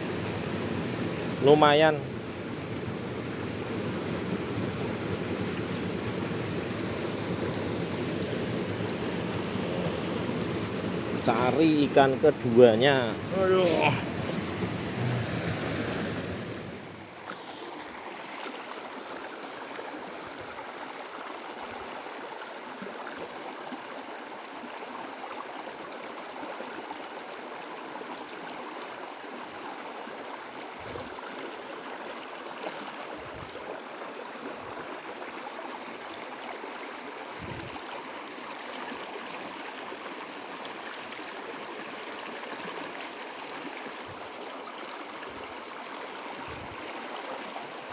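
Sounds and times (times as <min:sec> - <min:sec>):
stream flowing over stones: 0:00.0 - 0:47.9.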